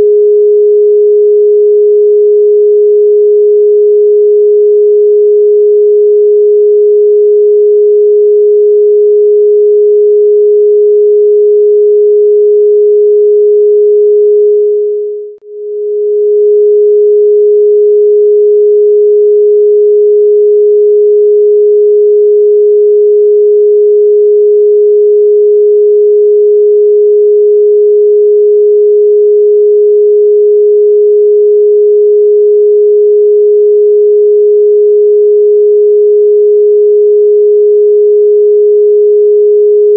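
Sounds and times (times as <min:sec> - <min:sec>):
electronic sine tone: 0:00.0 - 0:39.9.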